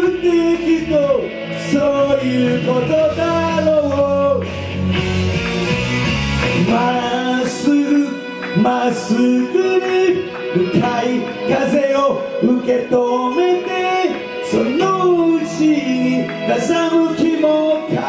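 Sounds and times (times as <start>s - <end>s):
man singing into a microphone: 0.0s - 4.6s, 6.6s - 18.0s
instrumental backing: 0.0s - 18.0s.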